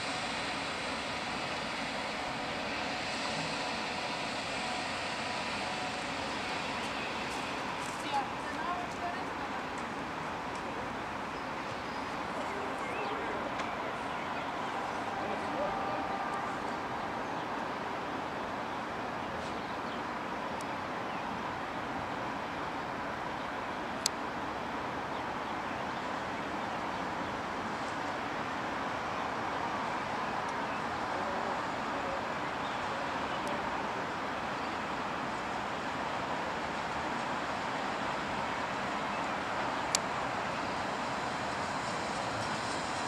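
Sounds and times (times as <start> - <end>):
diesel train rumbling: 0.0 - 43.0.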